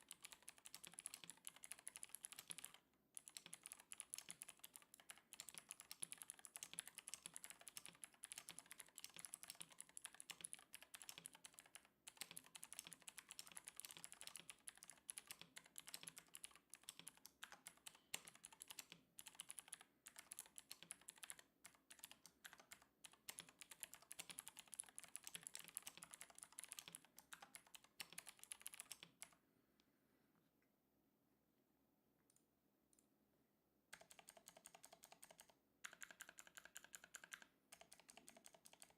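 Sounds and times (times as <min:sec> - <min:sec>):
mechanical keyboard typing: 0:00.0 - 0:29.4, 0:33.9 - 0:38.9.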